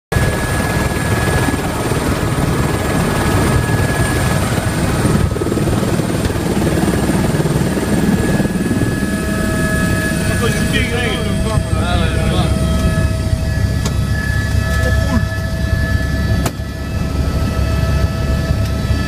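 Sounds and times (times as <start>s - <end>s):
helicopter rotor and engine noise: 0.1s - 19.0s
thin steady whine: 0.2s - 19.0s.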